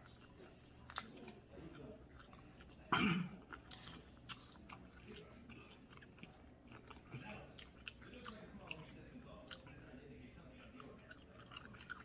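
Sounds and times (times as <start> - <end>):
chewing food with crisp clicks: 0.0 - 12.0.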